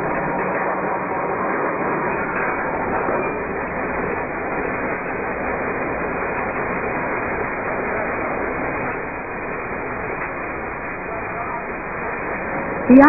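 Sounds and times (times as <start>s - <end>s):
steady machinery noise: 0.0s - 13.0s.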